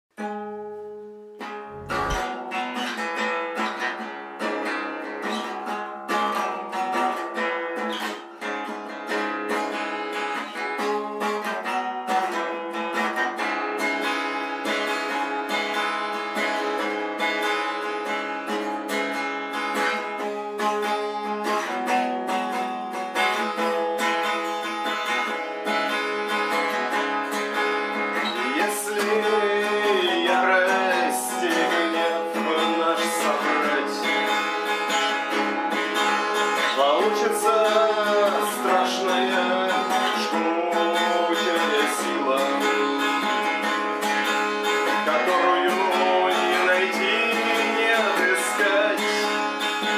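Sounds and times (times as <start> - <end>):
acoustic guitar strumming: 0.2 - 49.9.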